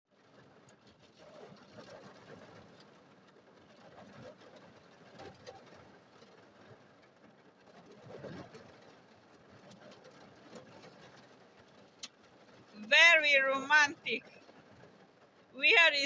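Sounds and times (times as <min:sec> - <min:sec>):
rain pattering on a car: 0:00.1 - 0:16.0.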